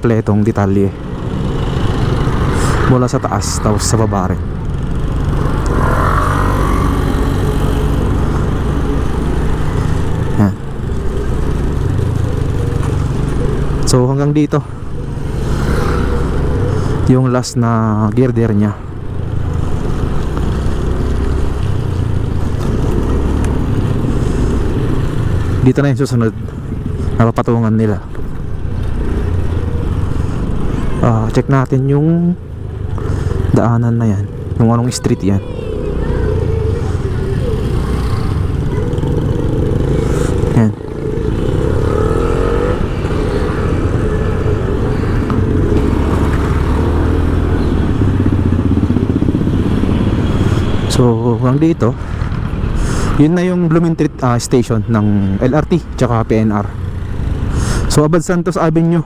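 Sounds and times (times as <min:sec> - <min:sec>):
road and wind noise: 0:00.0 - 0:59.0
vehicle engine rumble: 0:00.0 - 0:59.0.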